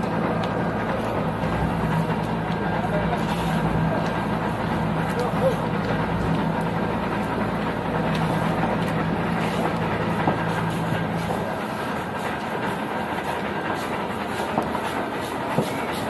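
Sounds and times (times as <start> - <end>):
house fire roaring and crackling: 0.0 - 16.0.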